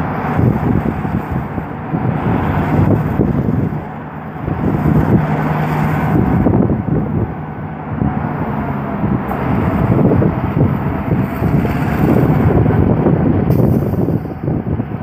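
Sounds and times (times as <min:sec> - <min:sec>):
diesel locomotive engine humming: 0:00.0 - 0:15.0
low rumble: 0:00.0 - 0:15.0.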